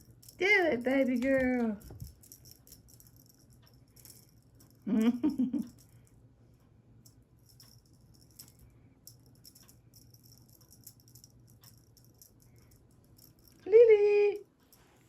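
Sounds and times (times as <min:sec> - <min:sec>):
cat playing rattles and clicks: 0:00.0 - 0:06.2, 0:06.9 - 0:13.8.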